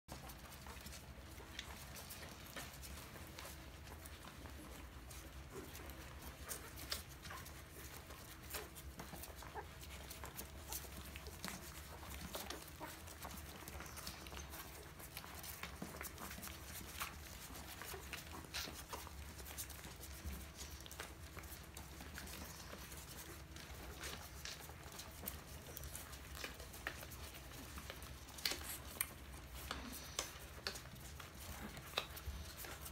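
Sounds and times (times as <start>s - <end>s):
puppies suckling: 0.1s - 32.9s.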